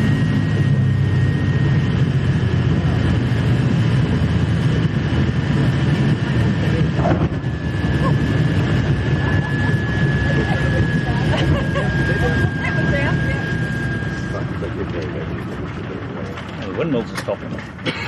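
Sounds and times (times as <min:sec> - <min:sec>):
radial aircraft engines droning: 0:00.0 - 0:18.0
thin steady whine: 0:00.0 - 0:18.0.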